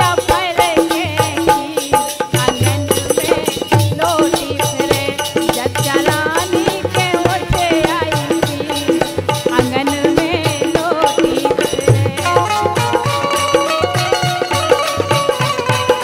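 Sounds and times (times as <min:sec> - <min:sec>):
hand drum beat: 0:00.0 - 0:16.0
rattling percussion: 0:00.0 - 0:16.0.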